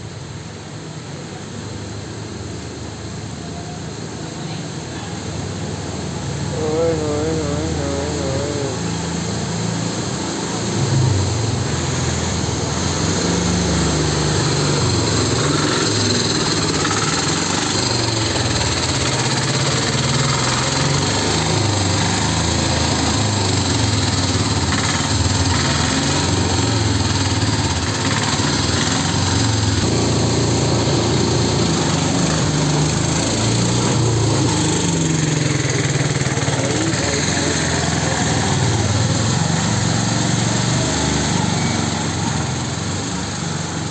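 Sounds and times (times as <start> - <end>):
small engine running: 3.8 - 43.9.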